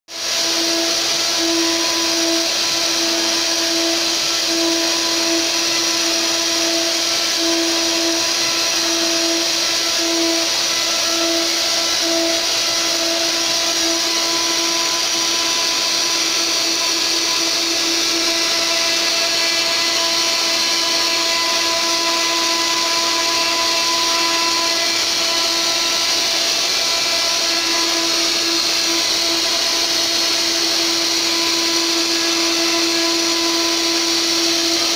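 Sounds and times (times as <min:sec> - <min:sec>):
router spindle whining: 0:00.1 - 0:34.9.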